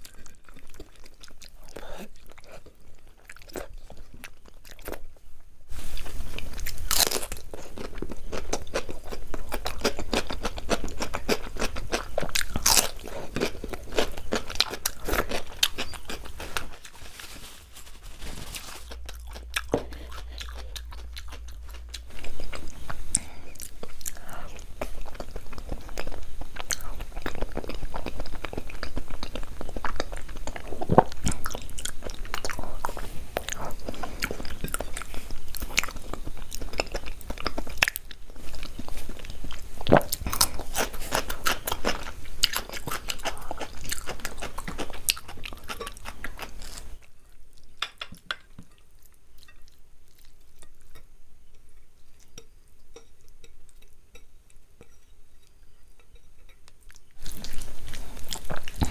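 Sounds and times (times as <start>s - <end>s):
chewing and crunching food: 0.0s - 58.9s.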